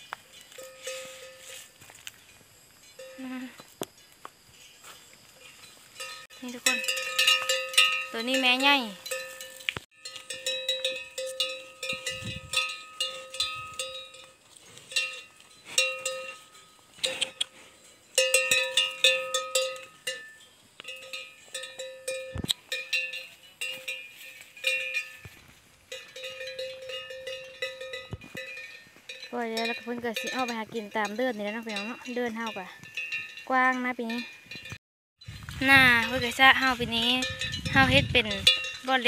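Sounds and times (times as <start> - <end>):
animal neck bell clanking: 0.0 - 4.1, 5.4 - 39.0.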